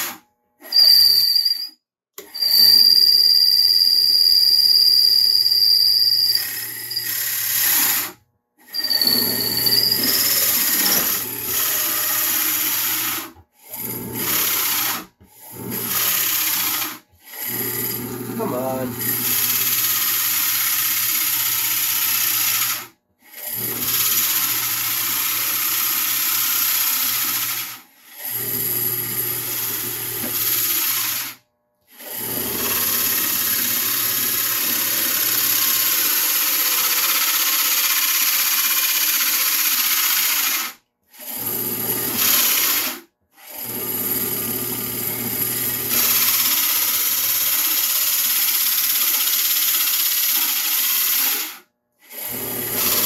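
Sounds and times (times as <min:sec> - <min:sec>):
electric power tool running: 0:00.0 - 0:00.2, 0:06.2 - 0:31.4, 0:32.0 - 0:40.8, 0:41.4 - 0:43.0, 0:43.6 - 0:51.6, 0:52.2 - 0:53.0.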